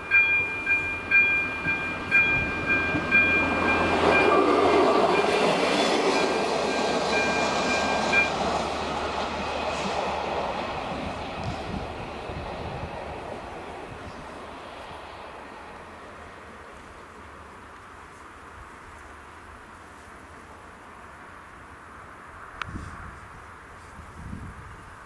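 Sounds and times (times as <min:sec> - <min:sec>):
passenger train passing: 0:00.0 - 0:22.6.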